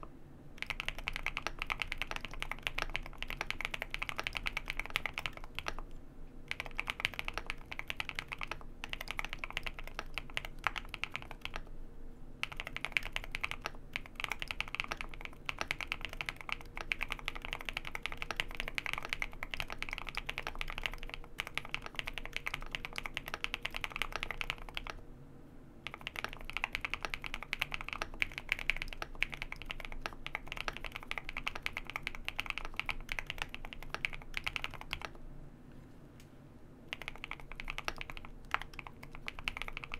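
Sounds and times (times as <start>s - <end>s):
mechanical keyboard typing clacks: 0.6s - 5.8s, 6.5s - 11.7s, 12.4s - 25.0s, 25.8s - 35.2s, 36.9s - 39.9s.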